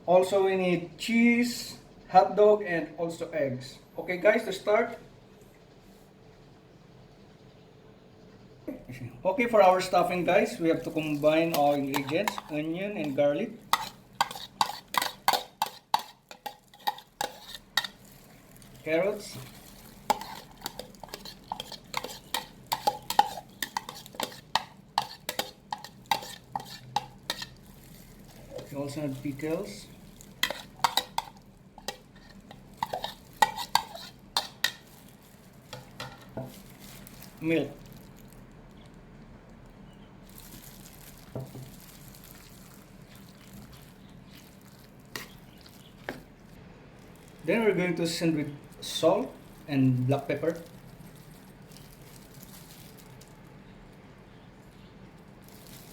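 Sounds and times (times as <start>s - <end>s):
low steady hum: 0.0s - 55.9s.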